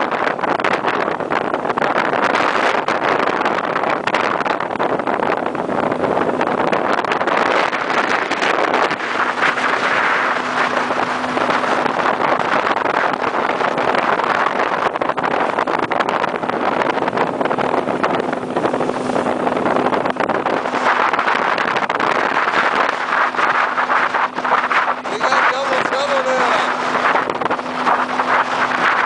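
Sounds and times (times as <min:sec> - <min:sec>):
motorboat engine hum: 0:00.0 - 0:29.0
wind rushing over microphone: 0:00.0 - 0:29.0.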